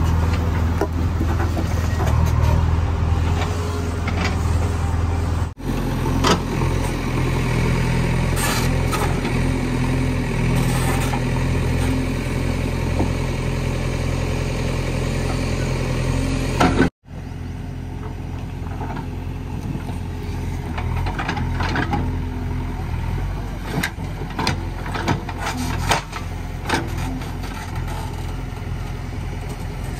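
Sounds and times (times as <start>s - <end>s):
diesel machinery engines running: 0.0s - 29.9s.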